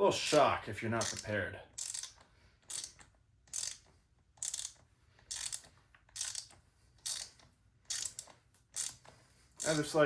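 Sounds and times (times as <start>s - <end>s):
ratchet wrench clicking: 0.3s - 10.0s.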